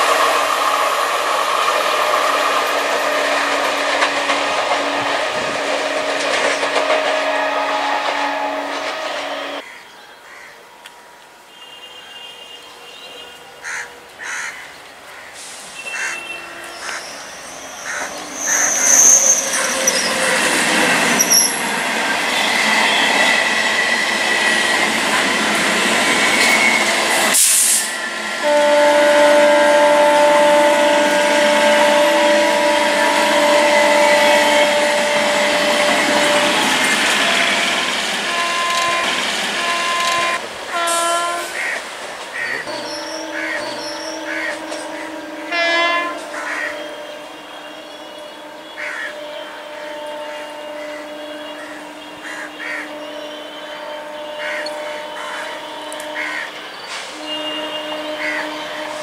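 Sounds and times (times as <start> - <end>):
train wheel and rail noise: 0.0 - 59.0.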